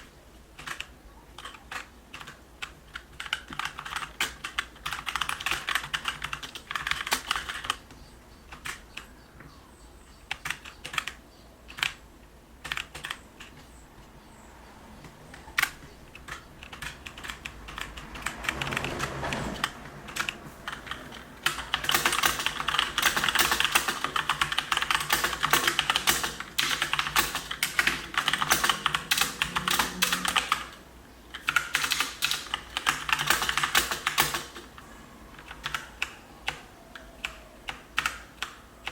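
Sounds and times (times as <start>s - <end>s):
mechanical keyboard typing: 0.5s - 7.9s, 8.5s - 9.1s, 10.3s - 12.0s, 12.6s - 13.7s, 15.0s - 38.9s.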